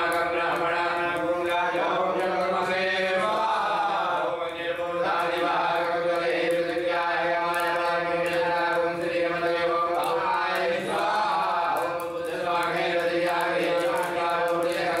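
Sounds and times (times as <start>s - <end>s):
men chanting mantras: 0.0s - 15.0s.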